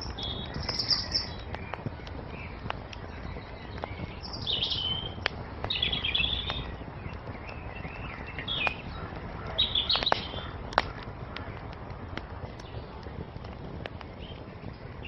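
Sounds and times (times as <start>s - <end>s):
songbirds chirping: 0.0s - 15.0s
wood fire crackling: 0.0s - 15.0s.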